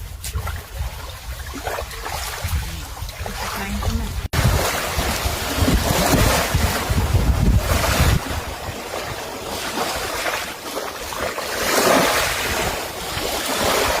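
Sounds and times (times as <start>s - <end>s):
wind buffeting microphone: 0.0s - 14.0s
surf rushing: 1.5s - 14.0s.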